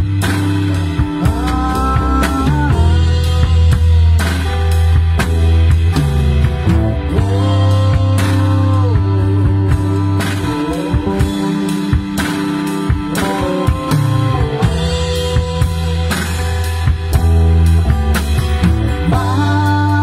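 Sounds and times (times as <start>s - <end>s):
acoustic guitar: 0.0s - 20.0s
drum kit: 0.0s - 20.0s
electric bass: 0.0s - 20.0s.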